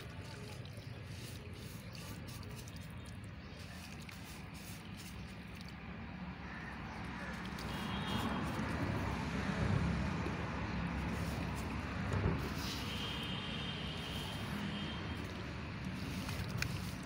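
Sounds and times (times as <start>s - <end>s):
wet cement squishing in water: 0.0s - 17.0s.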